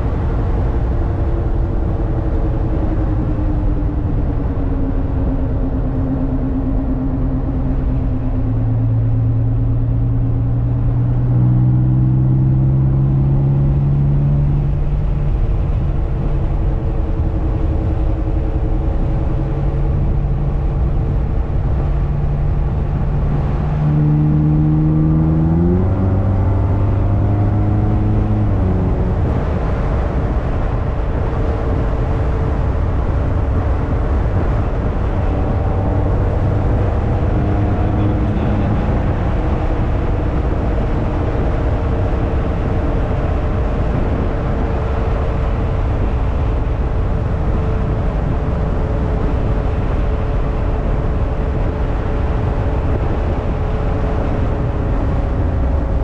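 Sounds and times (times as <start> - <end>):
car engine accelerating: 0.0 - 56.0
road and tyre noise: 0.0 - 56.0.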